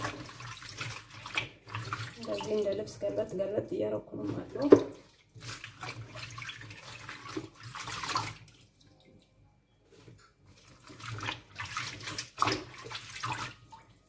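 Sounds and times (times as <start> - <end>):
water splashing and dripping: 0.0 - 2.9, 4.3 - 9.3, 10.5 - 14.0.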